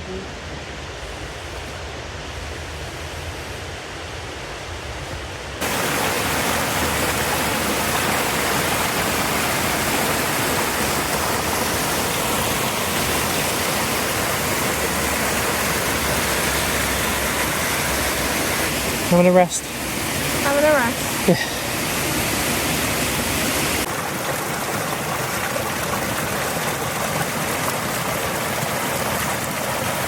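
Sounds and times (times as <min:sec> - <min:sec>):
waterfall rushing: 0:05.6 - 0:30.0.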